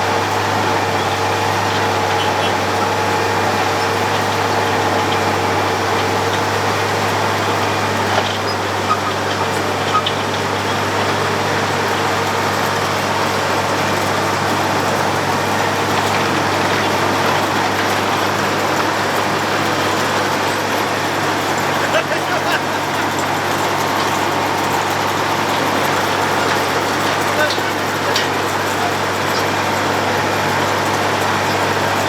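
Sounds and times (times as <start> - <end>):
road planing machine running: 0.0 - 32.0.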